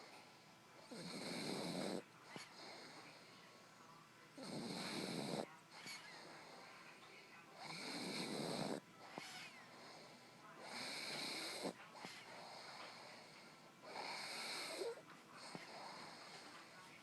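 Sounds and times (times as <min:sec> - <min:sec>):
dog breathing quietly: 0:00.0 - 0:03.8, 0:04.4 - 0:17.0
dog snoring: 0:00.8 - 0:03.3, 0:04.4 - 0:16.8.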